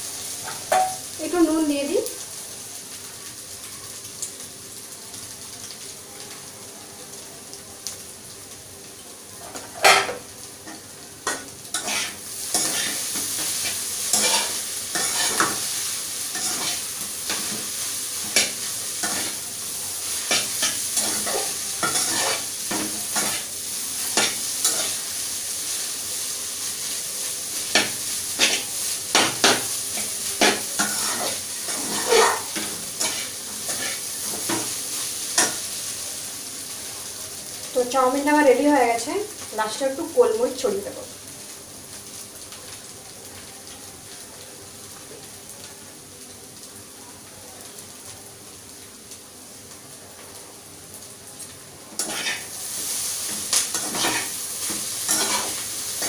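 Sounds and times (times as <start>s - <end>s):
noodles sizzling in a wok: 0.0s - 56.0s.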